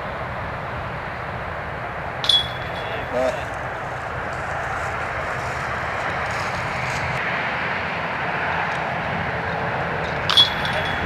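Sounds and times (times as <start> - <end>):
outdoor rushing noise: 0.0 - 11.0.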